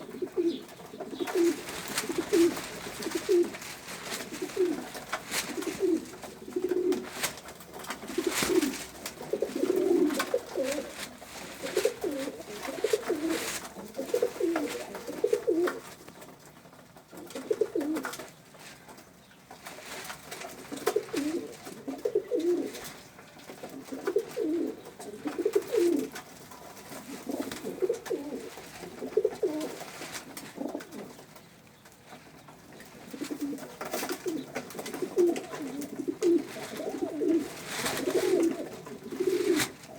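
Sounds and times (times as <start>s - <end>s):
pigeons cooing: 0.0s - 16.0s, 17.2s - 18.2s, 20.6s - 23.0s, 23.6s - 26.2s, 26.9s - 31.4s, 32.7s - 39.9s.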